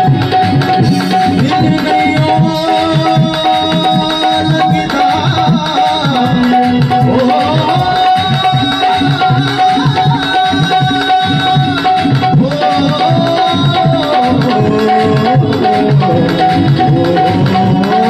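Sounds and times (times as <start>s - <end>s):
electronic keyboard notes: 0.0s - 18.0s
tabla rhythm: 0.0s - 18.0s.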